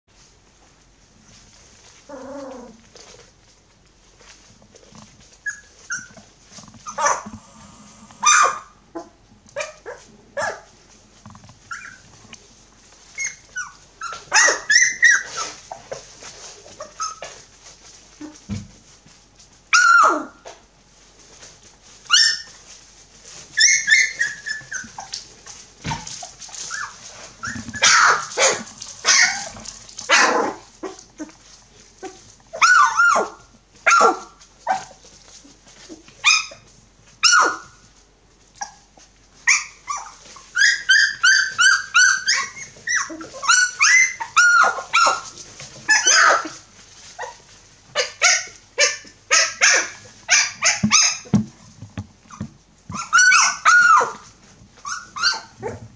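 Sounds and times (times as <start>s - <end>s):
puppies yipping and whining: 1.9s - 3.2s, 5.2s - 10.7s, 11.6s - 12.3s, 13.0s - 18.4s, 19.7s - 20.5s, 21.4s - 37.9s, 38.6s - 51.4s, 52.2s - 55.9s.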